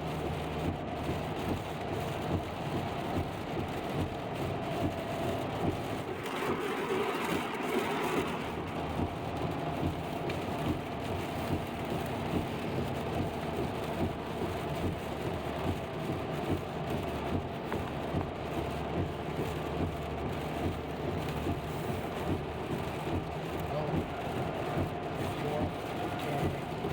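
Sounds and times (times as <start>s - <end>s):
rain on car: 0.0s - 26.9s
road and tyre noise: 0.0s - 26.9s.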